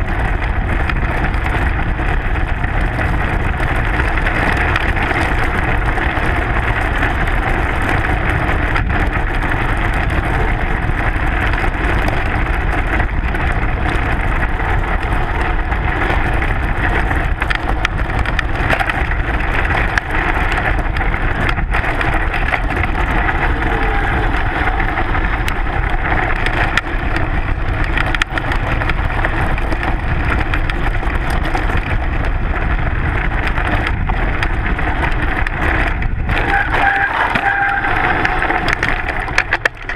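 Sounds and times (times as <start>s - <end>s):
gravel clicks: 0.0s - 39.9s
mountain bike rolling on gravel: 0.0s - 39.9s.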